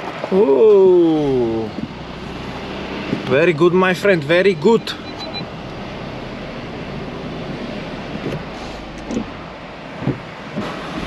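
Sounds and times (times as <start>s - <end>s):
engine and tyre hum: 0.0s - 11.0s.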